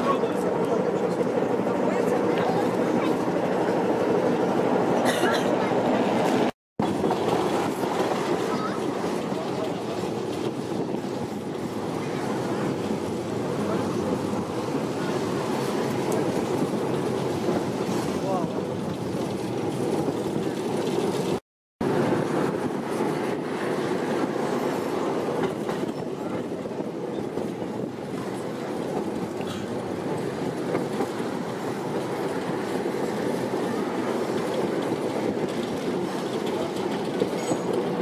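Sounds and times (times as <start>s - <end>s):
tram running on rails: 0.0s - 38.0s.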